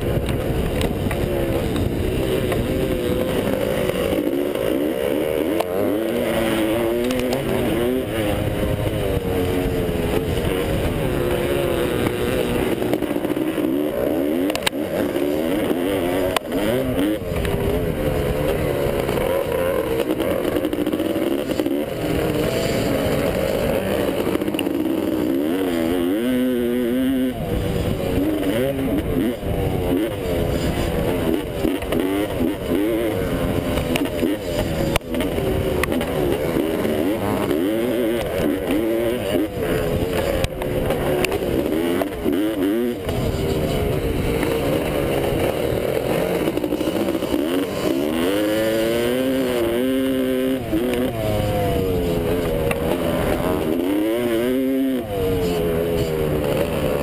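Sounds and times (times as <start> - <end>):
two-stroke motorcycle engine racing: 0.0 - 57.0.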